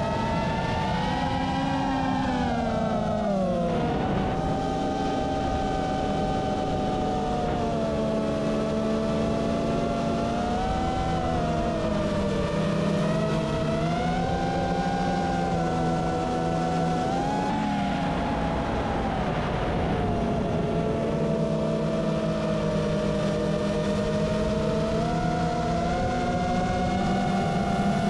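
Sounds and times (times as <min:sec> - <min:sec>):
drone motors whining: 0:00.0 - 0:28.0.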